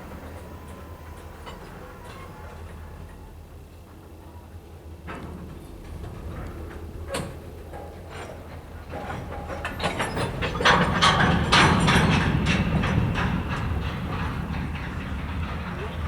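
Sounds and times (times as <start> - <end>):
wheels clicking over rail joints: 0.0 - 4.1, 5.2 - 16.0
train rumbling past: 0.0 - 16.0.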